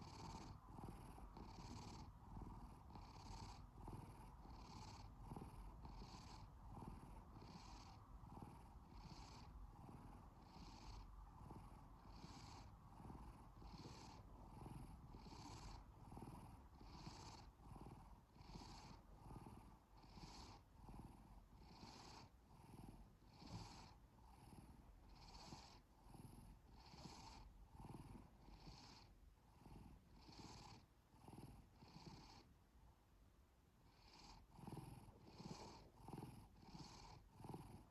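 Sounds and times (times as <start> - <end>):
cat purring faintly: 0.0 - 37.9.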